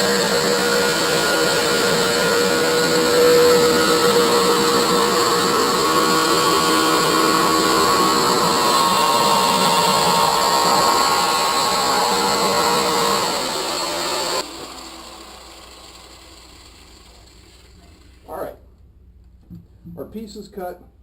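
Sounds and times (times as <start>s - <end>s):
angle grinder cutting steel: 0.0s - 18.2s.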